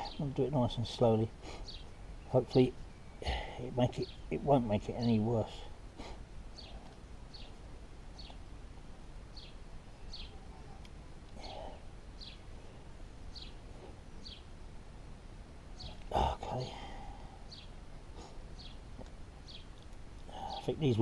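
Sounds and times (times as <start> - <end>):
bird chirping: 0.0 - 21.0
low outdoor rumble: 0.0 - 21.0.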